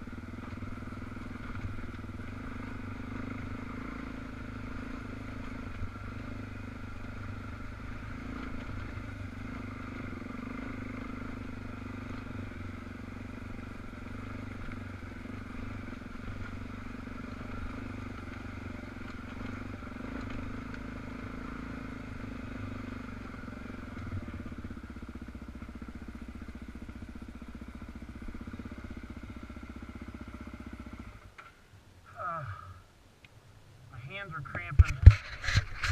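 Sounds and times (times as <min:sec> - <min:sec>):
motorcycle engine running: 0:00.0 - 0:32.8, 0:34.0 - 0:35.9.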